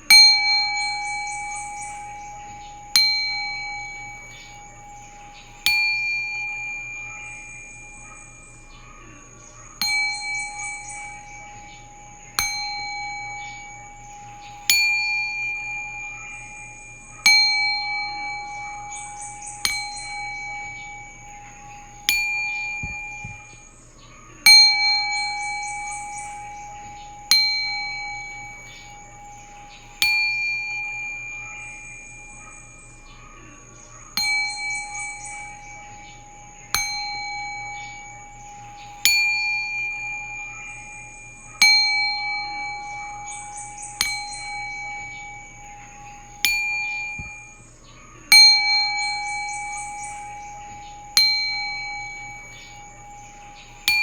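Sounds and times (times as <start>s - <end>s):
singing bowl ringing: 0.0s - 54.0s.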